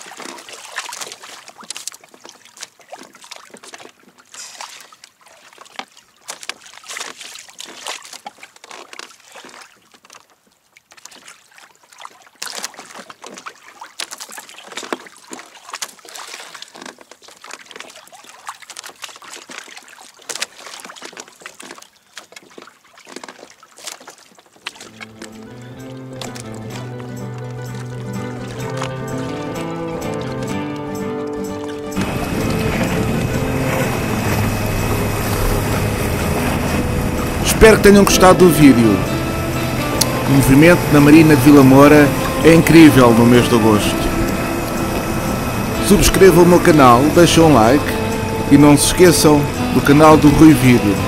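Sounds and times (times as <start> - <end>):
water splashing against hull: 0.0 - 51.0.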